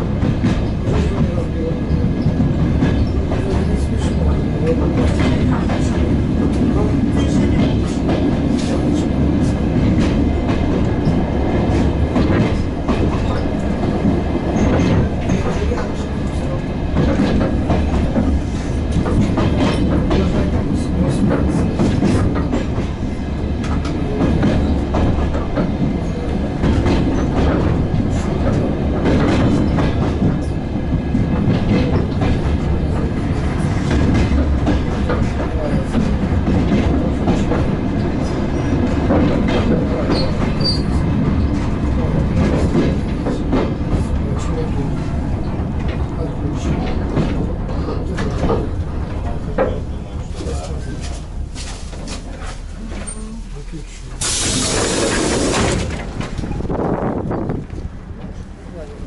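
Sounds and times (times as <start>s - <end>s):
diesel train rumbling: 0.0s - 59.0s.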